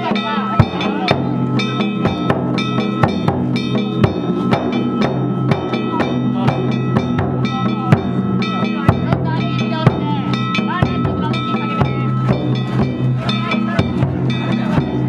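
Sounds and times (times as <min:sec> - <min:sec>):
metal hand gongs ringing: 0:00.0 - 0:15.0
taiko drum beats: 0:00.0 - 0:15.0.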